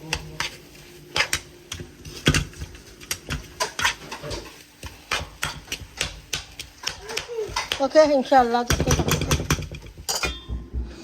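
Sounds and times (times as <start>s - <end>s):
utensils and dishes clinking: 0.0s - 10.7s.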